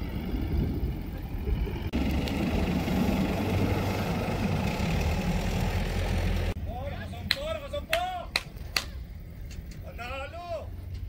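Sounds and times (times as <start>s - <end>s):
pickup engine rumbling: 0.0s - 11.0s.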